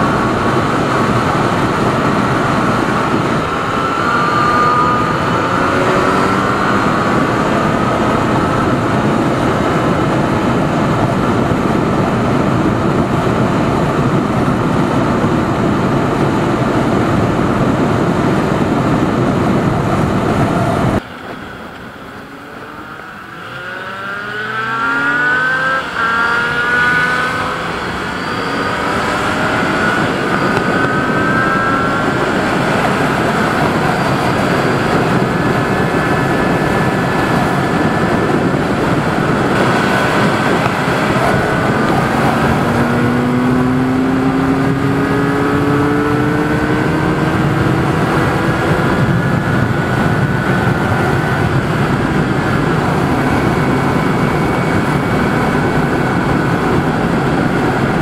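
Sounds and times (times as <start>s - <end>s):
motorcycle engine accelerating: 0.0s - 58.0s
wind rushing: 0.0s - 58.0s.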